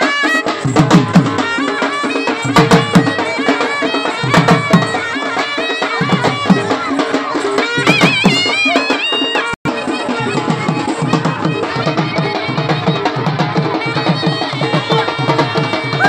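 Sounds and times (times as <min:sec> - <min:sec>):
drums beaten with sticks: 0:00.0 - 0:16.0
shrill reed-pipe melody: 0:00.0 - 0:16.0.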